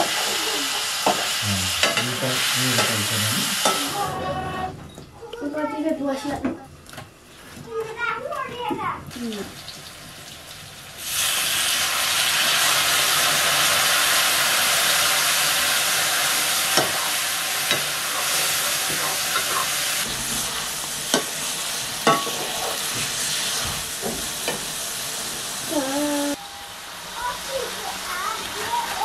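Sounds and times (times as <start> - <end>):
food sizzling in a wok: 0.0 - 4.2, 9.1 - 29.0.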